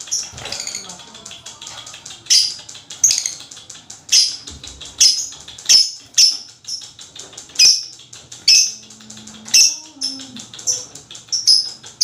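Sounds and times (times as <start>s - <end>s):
lovebird high-pitched chatter: 0.0s - 12.0s.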